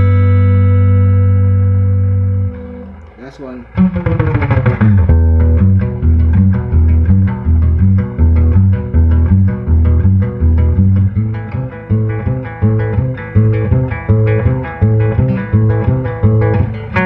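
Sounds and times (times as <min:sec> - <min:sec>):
amplified acoustic guitar picking: 0:00.0 - 0:17.0.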